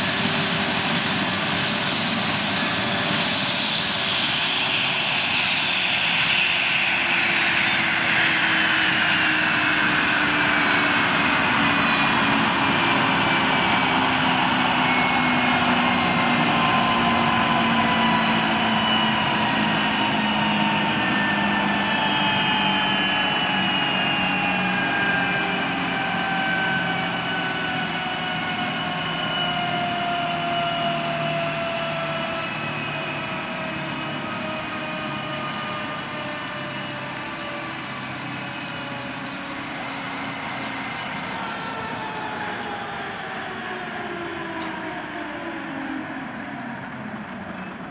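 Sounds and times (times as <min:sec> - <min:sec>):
helicopter turbine whine winding down: 0:00.0 - 0:47.9.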